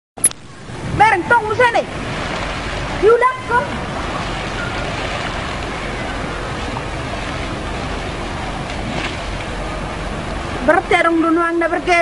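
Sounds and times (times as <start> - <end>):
steady rushing noise: 0.2 - 12.0.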